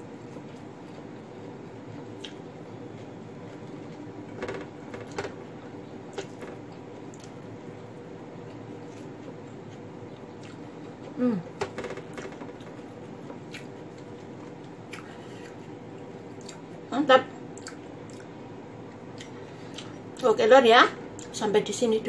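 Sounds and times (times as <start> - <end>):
soft chewing: 0.1 - 4.3, 5.0 - 11.6, 12.2 - 20.3.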